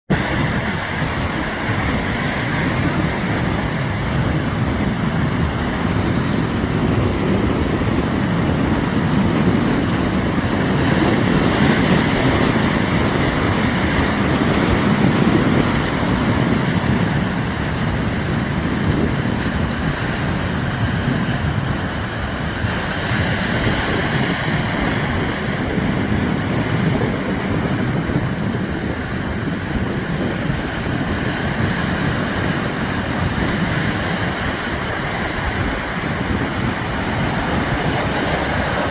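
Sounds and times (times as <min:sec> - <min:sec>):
strong wind on microphone: 0:00.1 - 0:38.9.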